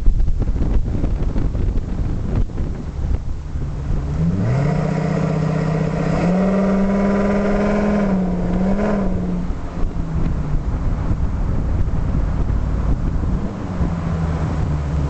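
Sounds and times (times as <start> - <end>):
truck engine revving: 1.3 - 15.0.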